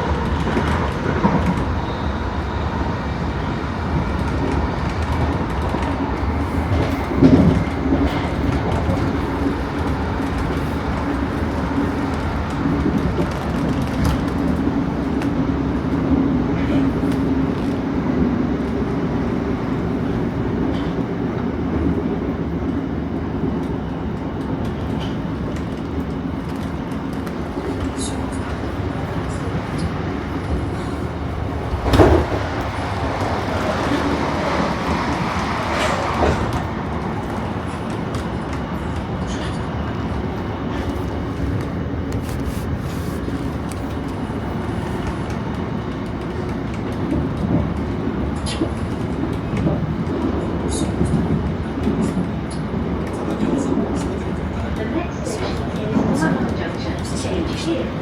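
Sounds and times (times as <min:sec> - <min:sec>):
train running inside carriage: 0:00.0 - 0:58.0.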